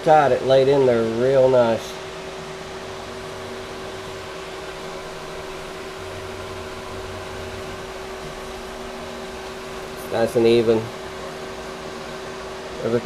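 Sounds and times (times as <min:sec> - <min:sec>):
electrical hum: 0:00.0 - 0:13.0
fan whirring: 0:00.0 - 0:13.0.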